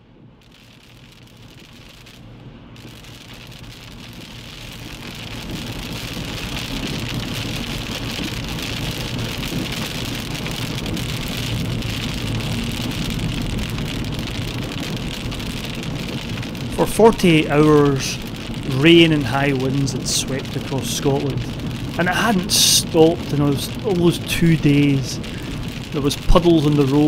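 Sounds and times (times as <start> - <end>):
low rumble: 0.0 - 27.0
heavy rain hissing: 0.4 - 27.0.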